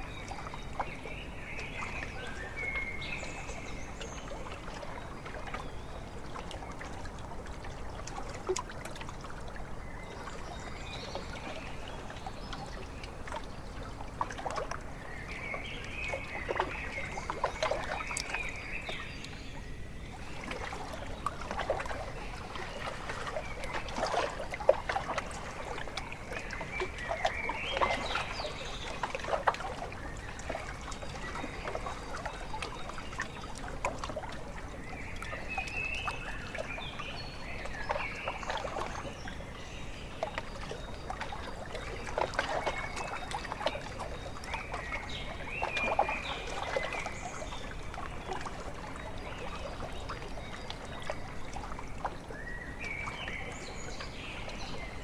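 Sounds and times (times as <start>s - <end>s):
water lapping at shore: 0.0s - 55.0s.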